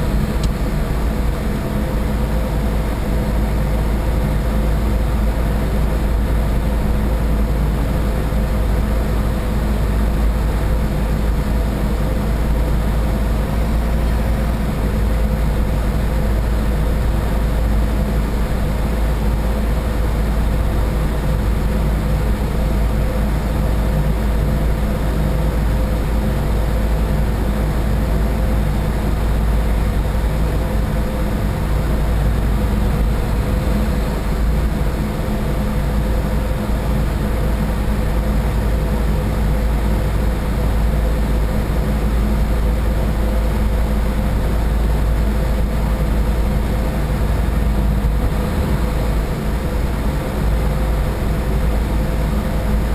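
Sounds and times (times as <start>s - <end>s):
boat engines droning: 0.0s - 52.9s.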